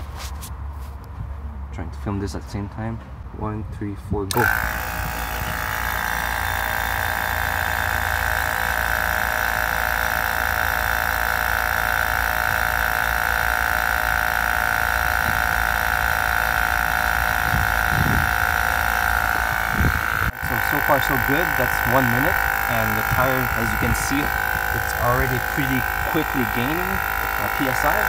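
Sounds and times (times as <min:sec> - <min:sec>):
tire compressor motor whine: 0:04.3 - 0:28.0.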